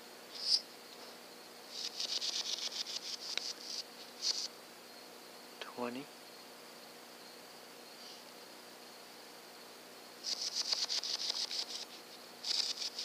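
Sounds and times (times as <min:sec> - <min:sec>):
insects buzzing in pulses: 0:00.0 - 0:13.0
high-pitched insect drone: 0:00.3 - 0:00.7, 0:01.3 - 0:08.3, 0:08.9 - 0:13.0.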